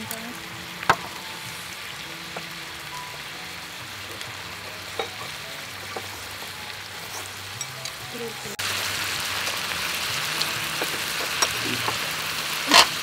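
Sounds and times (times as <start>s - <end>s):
meat and vegetables sizzling on grill: 0.0s - 13.0s.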